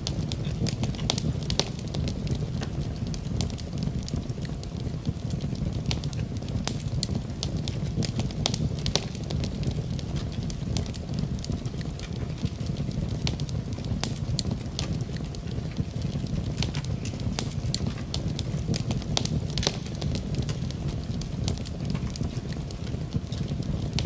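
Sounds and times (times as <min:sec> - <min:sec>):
rain: 0:00.0 - 0:24.0
wood fire crackling: 0:00.0 - 0:24.0.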